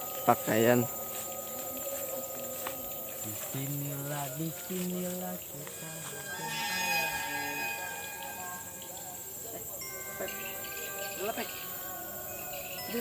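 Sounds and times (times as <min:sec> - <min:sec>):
crickets chirping: 0:00.0 - 0:13.0
faint sustained tones: 0:00.0 - 0:13.0.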